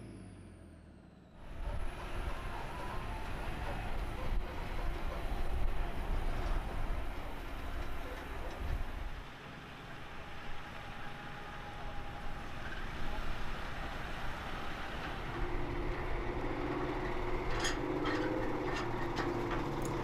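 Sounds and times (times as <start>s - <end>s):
heavy diesel truck running: 0.0s - 20.0s
steady engine hum: 0.0s - 20.0s.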